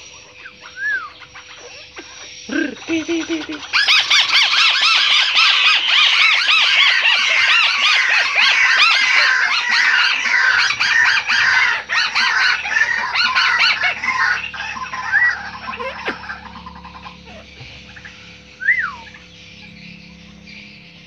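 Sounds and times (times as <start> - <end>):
bird chattering call: 0.0 - 21.0.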